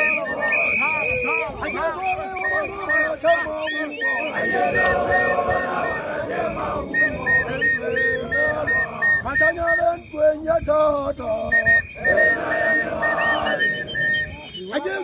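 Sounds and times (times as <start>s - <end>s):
group singing and chanting: 0.0s - 9.9s, 10.5s - 14.9s
high whistle toots: 0.0s - 10.2s, 11.1s - 14.9s.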